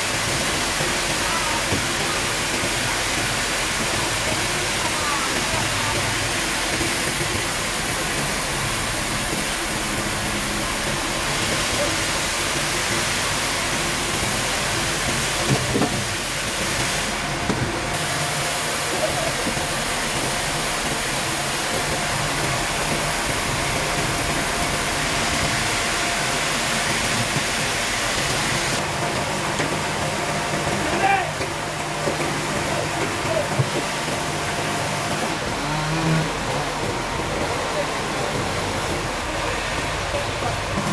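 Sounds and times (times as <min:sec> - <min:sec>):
constant hiss: 0:00.0 - 0:40.9
sawmill machinery din: 0:00.0 - 0:40.9.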